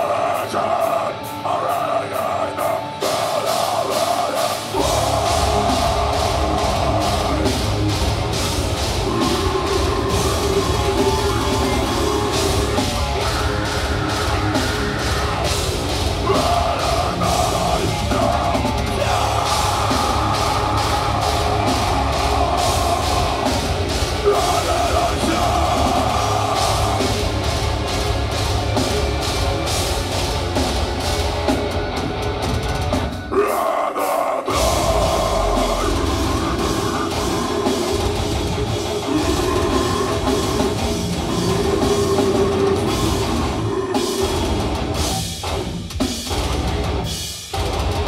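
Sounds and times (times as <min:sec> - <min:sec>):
distorted guitars: 0:00.0 - 0:48.0
fast pounding drums: 0:00.0 - 0:48.0.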